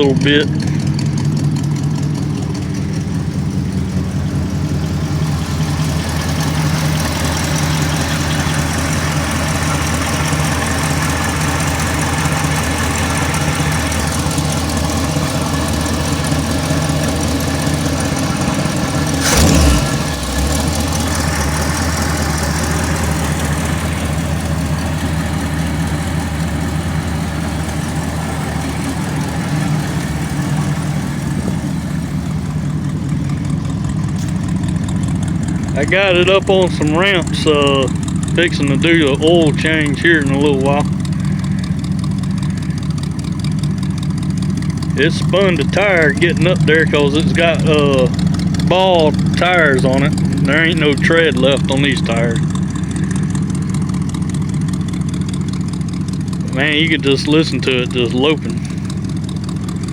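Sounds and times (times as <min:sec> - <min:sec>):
car engine idling with lope: 0:00.0 - 0:59.9.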